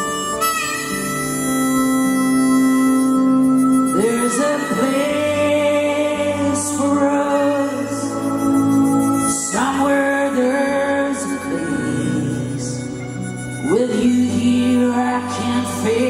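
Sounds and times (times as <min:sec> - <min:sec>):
folk band playing: 0:00.0 - 0:16.0
strummed guitar chords: 0:00.0 - 0:16.0.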